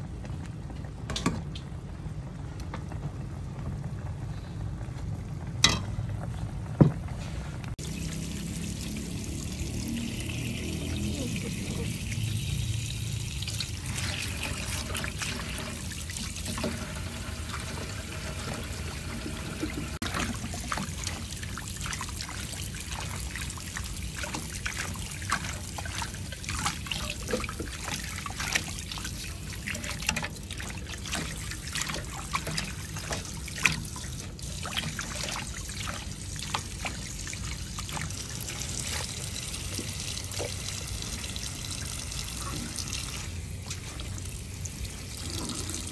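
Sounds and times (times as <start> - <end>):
tap water running into basin: 7.8 - 45.9.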